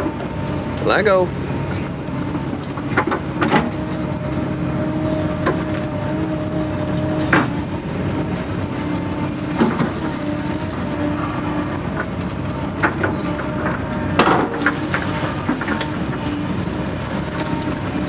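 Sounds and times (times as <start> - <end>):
diesel engine running: 0.0 - 18.0
hydraulics whining: 0.0 - 18.0.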